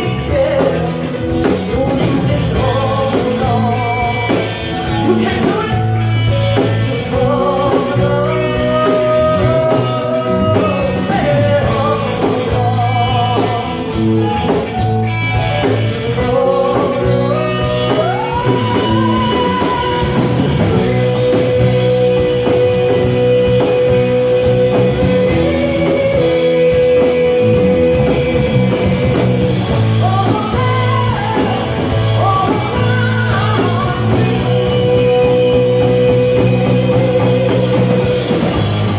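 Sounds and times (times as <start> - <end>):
rock guitar melody: 0.0 - 38.9
steady guitar chords: 0.0 - 38.9.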